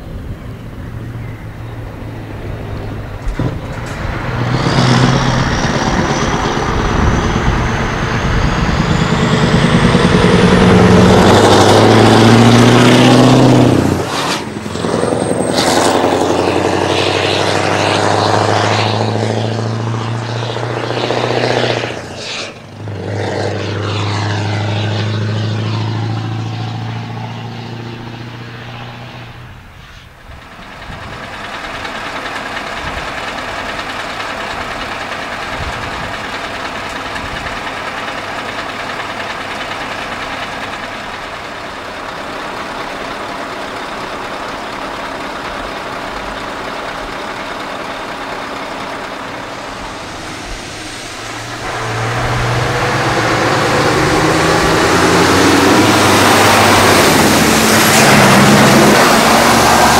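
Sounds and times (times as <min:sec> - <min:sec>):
road noise rushing: 0:00.0 - 0:59.9
truck driving past: 0:00.0 - 0:59.9.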